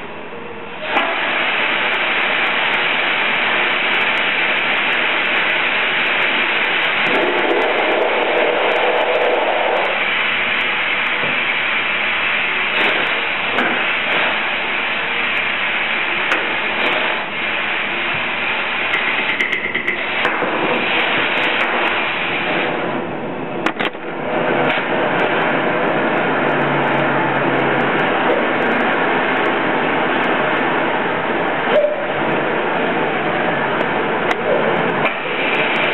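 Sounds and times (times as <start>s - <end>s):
gas burner flames hissing: 0.0s - 35.9s.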